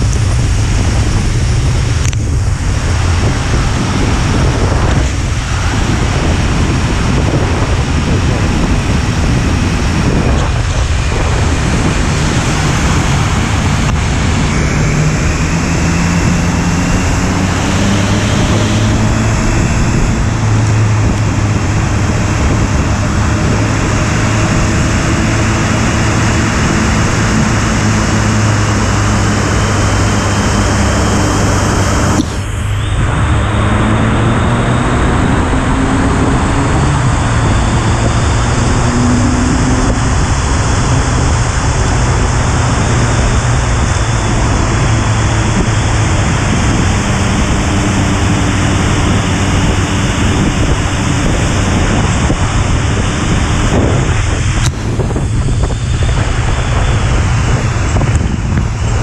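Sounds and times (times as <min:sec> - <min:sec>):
motorcycle engine hum: 0:00.0 - 0:59.0
road and tyre noise: 0:00.0 - 0:59.0
wind rushing over microphone: 0:00.0 - 0:59.0.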